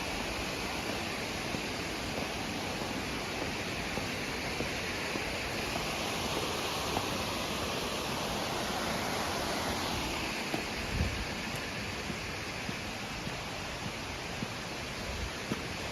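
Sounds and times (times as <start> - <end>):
stream and waterfall rushing: 0.0 - 15.9.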